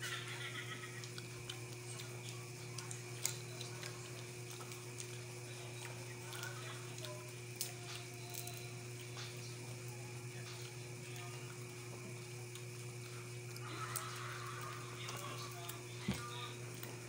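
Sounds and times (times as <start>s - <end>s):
low electrical hum: 0.0s - 17.0s
nut shells cracking: 0.1s - 17.0s.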